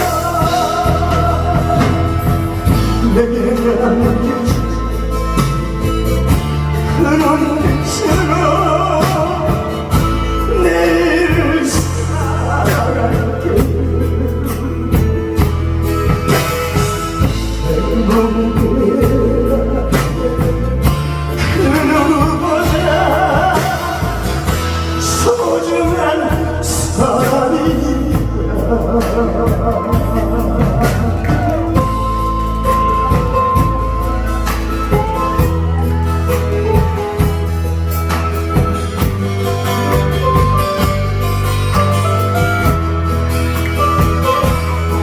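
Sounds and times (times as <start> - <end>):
person singing into a microphone: 0.0 - 39.0
amplified backing track: 0.0 - 45.0.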